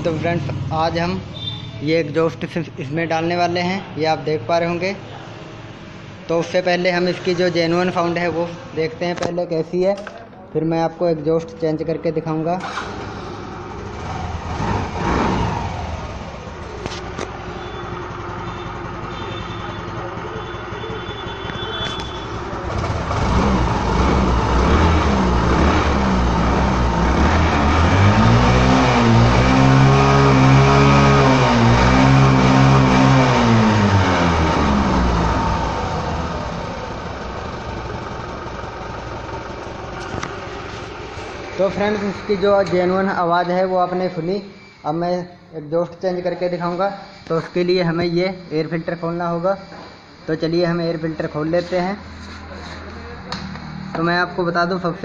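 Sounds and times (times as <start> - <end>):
scooter engine idling and revving: 0.0 - 3.6, 4.6 - 8.8, 12.6 - 43.7, 50.0 - 55.0.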